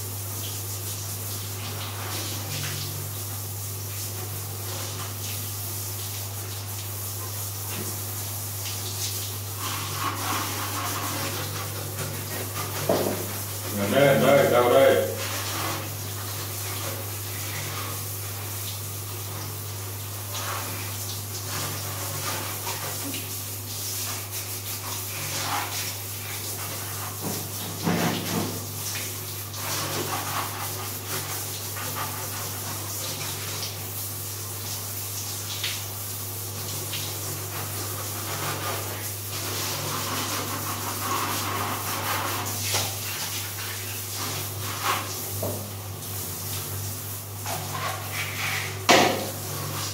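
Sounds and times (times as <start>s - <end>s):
shower water splashing on tiles: 0.0s - 49.9s.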